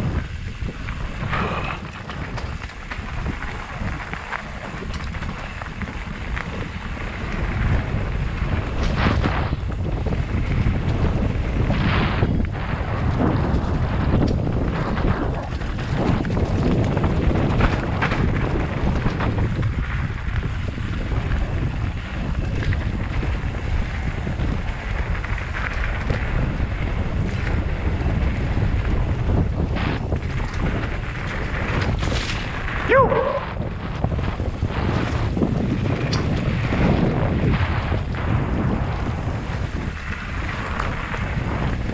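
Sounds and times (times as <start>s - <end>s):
tyres rushing over dirt trail: 0.0s - 41.9s
wind buffeting microphone: 0.0s - 41.9s.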